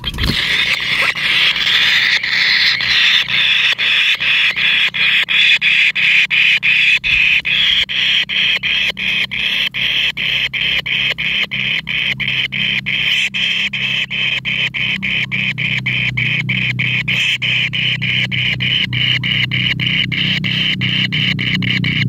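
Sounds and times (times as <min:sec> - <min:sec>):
nestlings begging calls: 0:00.0 - 0:22.0.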